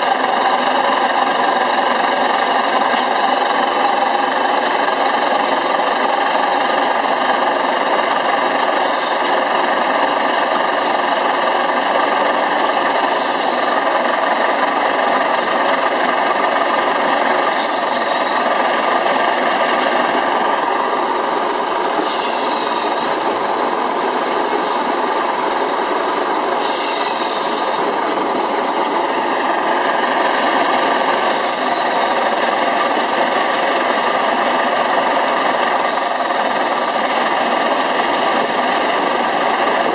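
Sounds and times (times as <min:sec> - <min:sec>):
steam engine running steadily: 0:00.0 - 0:39.9.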